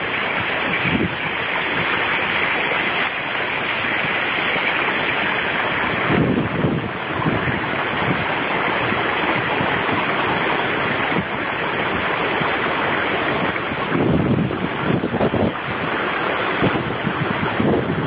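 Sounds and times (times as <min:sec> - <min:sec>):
heavy splashing in water: 0:00.0 - 0:18.0
stream rushing over stones: 0:00.0 - 0:18.0.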